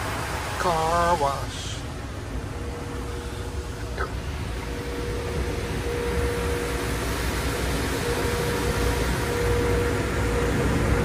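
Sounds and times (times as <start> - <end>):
machinery hum: 0.0 - 11.0
low rumble: 1.5 - 11.0.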